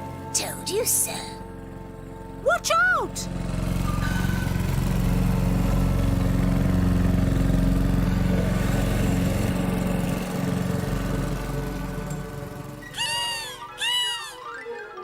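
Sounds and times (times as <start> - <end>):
heavy engine droning: 0.0 - 13.8.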